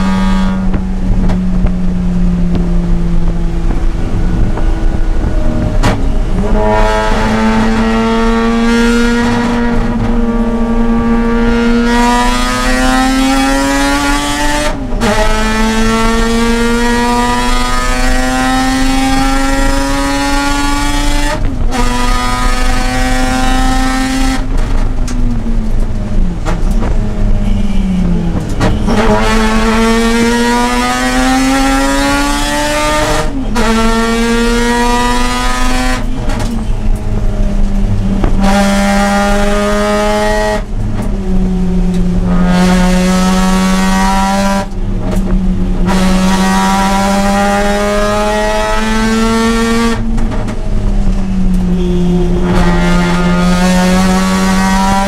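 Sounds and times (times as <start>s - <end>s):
rotary engine accelerating: 0.0s - 55.0s.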